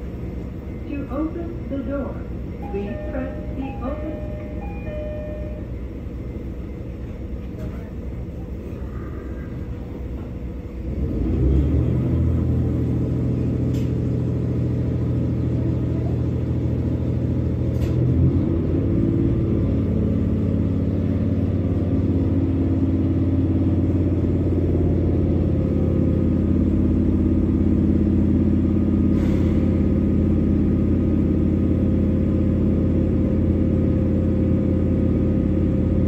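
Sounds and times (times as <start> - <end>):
train engine drone: 0.0 - 36.0.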